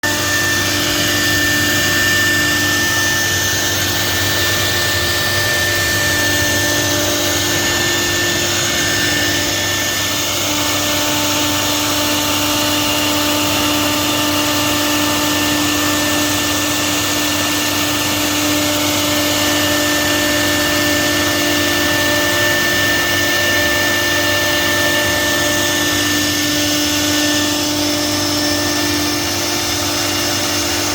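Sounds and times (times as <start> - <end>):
cnc router spindle whine: 0.0 - 30.9.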